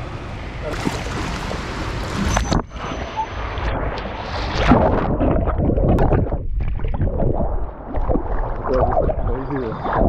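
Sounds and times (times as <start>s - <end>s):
pool water splashing and gurgling: 0.0s - 10.0s.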